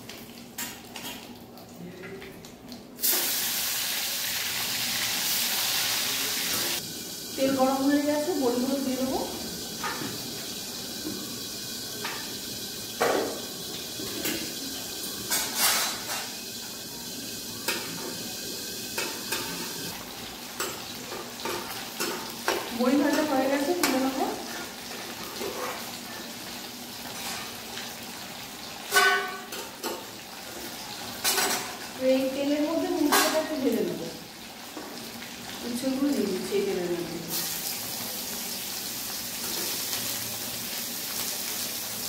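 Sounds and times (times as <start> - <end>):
food frying in hot oil: 0.0 - 42.0.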